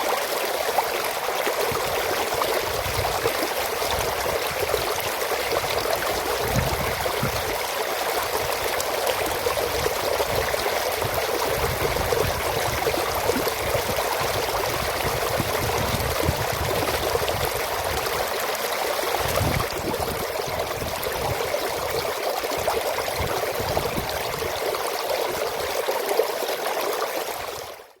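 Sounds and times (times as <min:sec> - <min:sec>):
water rushing through channel: 0:00.0 - 0:27.9.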